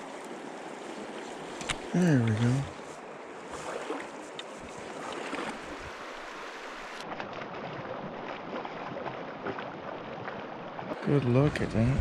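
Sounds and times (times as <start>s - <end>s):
river water rushing: 0.0s - 10.9s
small splashes: 0.0s - 11.0s.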